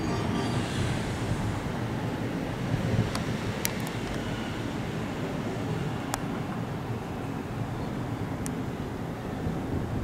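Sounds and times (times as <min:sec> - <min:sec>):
electric train running on rails: 0:00.0 - 0:10.0.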